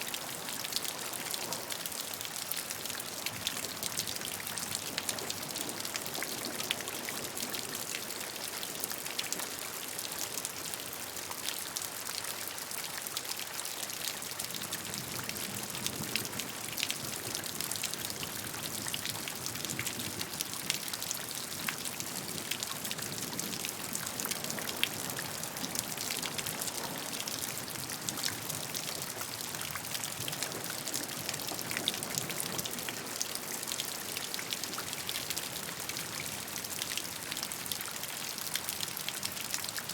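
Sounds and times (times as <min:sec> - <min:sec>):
hiss of falling rain: 0:00.0 - 0:39.9
raindrops pattering on a surface: 0:00.0 - 0:39.9.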